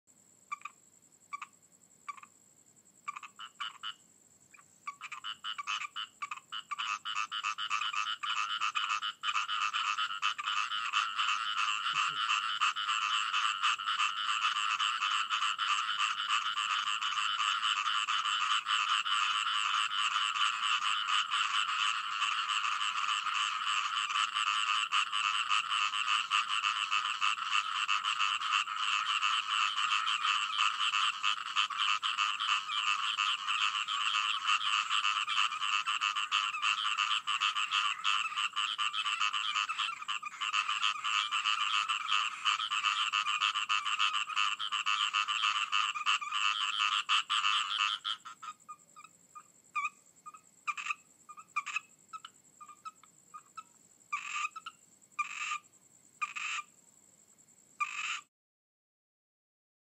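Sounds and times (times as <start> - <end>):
chorus of frogs calling: 0.5 - 2.4, 3.0 - 56.8, 57.8 - 58.3.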